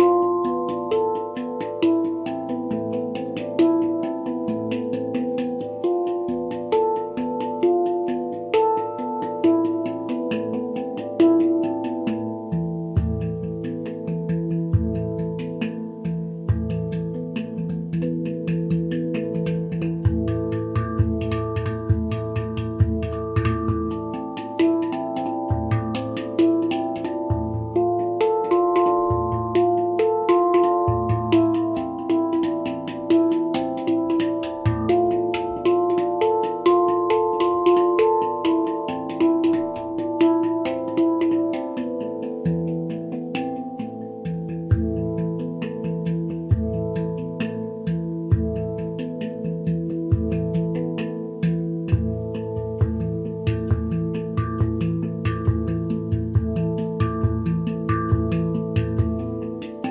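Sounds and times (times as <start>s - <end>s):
handpan played by hand: 0.0s - 59.9s.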